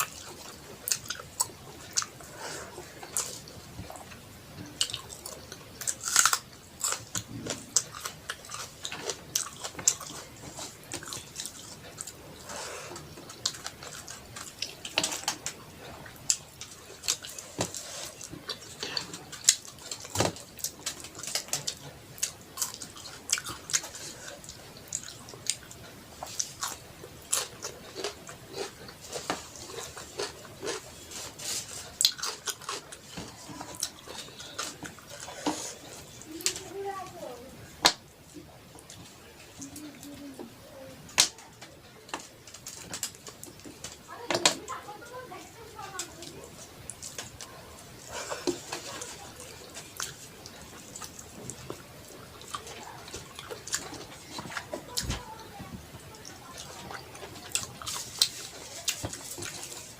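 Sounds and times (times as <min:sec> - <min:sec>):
wet chewing and smacking: 0:00.0 - 0:36.7, 0:45.8 - 0:55.2, 0:56.2 - 0:59.9.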